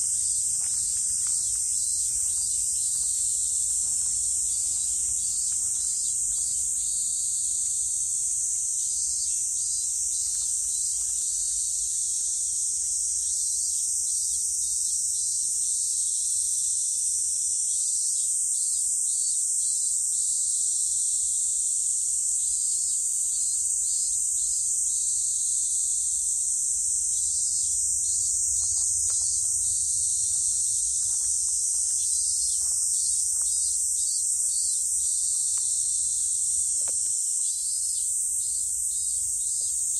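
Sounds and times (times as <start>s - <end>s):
cicadas chorus: 0.0s - 39.9s.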